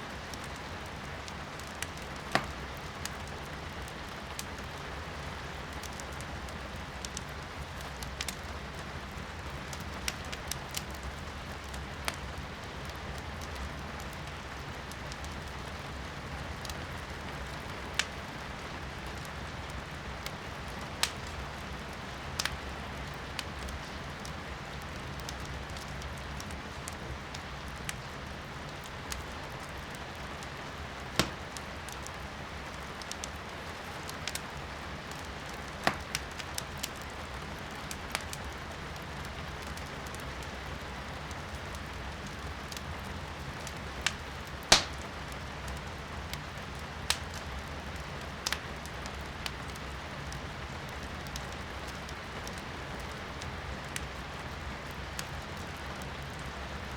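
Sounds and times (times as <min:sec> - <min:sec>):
rain hiss heard indoors: 0:00.0 - 0:56.9
wood fire crackling and popping: 0:00.1 - 0:56.9.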